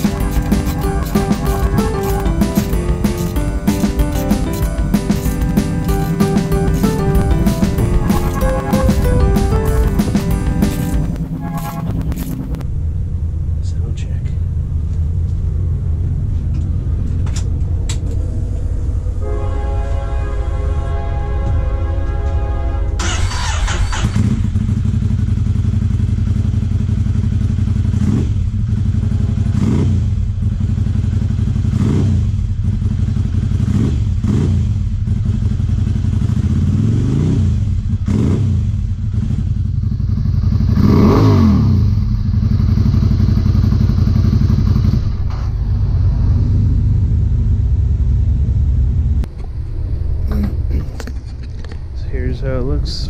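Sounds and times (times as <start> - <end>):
motorcycle engine idling and revving: 0.0 - 19.2, 23.0 - 53.0.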